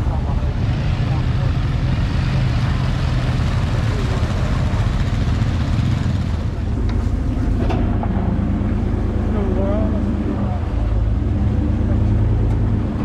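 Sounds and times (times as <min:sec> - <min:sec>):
vehicle engine rumbling: 0:00.0 - 0:13.0
wind and driving noise: 0:00.0 - 0:13.0.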